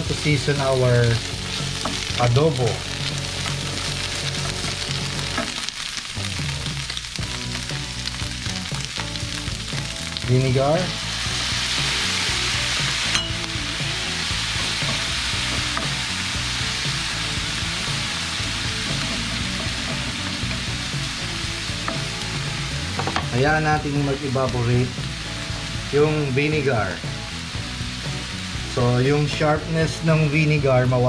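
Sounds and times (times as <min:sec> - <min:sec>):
vegetables sizzling in oil: 0:00.0 - 0:31.0
vinegar hissing in hot pan: 0:00.0 - 0:31.0.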